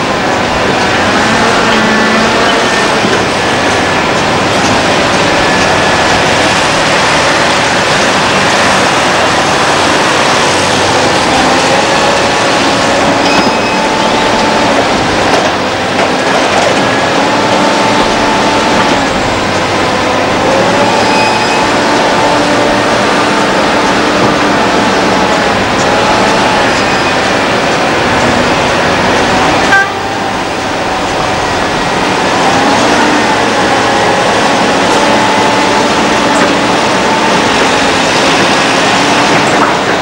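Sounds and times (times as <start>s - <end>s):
excavator diesel engine running: 0.0s - 40.0s
hydraulic whine: 0.0s - 40.0s.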